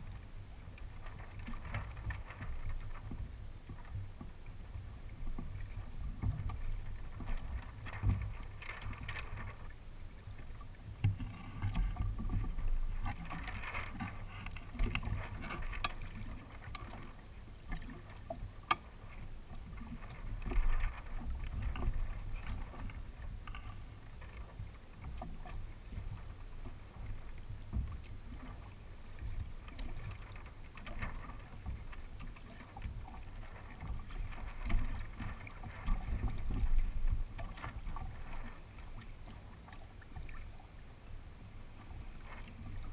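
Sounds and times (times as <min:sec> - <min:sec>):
water swishing against a kayak hull: 0:00.0 - 0:42.9.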